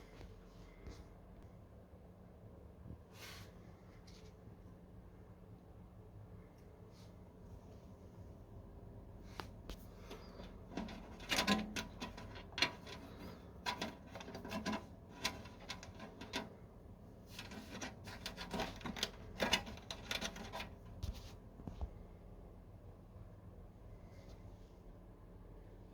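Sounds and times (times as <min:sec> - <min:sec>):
low steady hum: 0:00.0 - 0:25.9.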